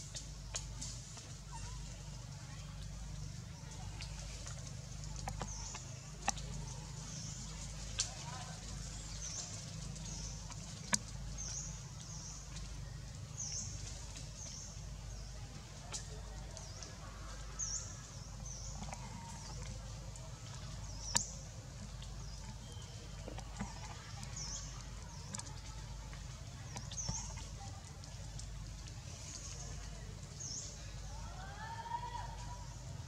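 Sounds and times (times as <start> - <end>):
low steady rumble: 0.0 - 33.0.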